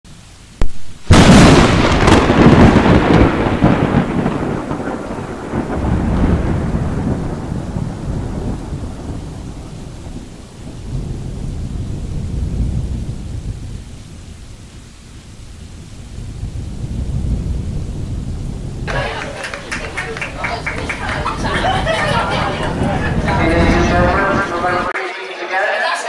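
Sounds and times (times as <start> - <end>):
steady rain: 0.0 - 25.0
loud thunderclap: 0.6 - 24.9
rolling thunder rumbles: 0.9 - 24.9.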